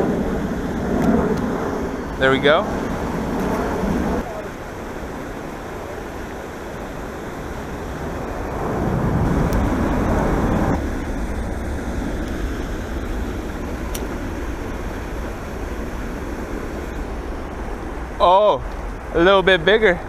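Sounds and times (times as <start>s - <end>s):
water rushing into creek: 1.8s - 20.0s.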